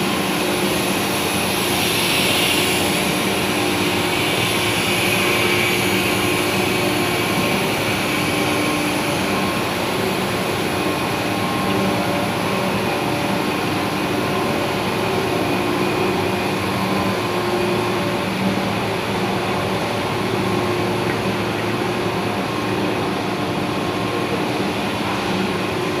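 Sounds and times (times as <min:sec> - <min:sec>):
production-line machinery drone: 0:00.0 - 0:26.0.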